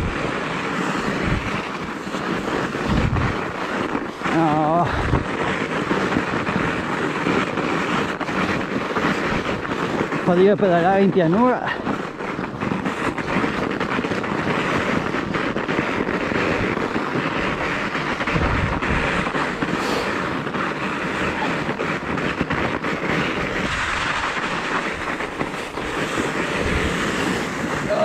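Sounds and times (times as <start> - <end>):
bike tyre crunching snow: 0.0 - 28.0
wind buffeting microphone: 0.0 - 28.0.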